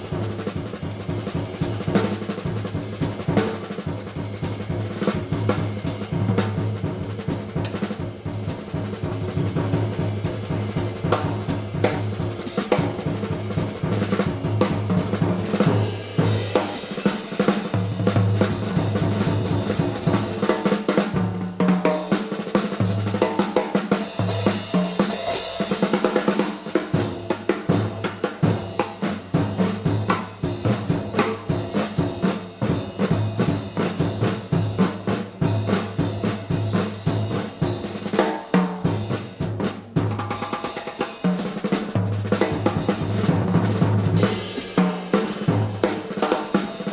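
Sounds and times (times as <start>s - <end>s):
live jazz band: 0.0s - 46.9s
snare and bass drum: 0.0s - 46.9s.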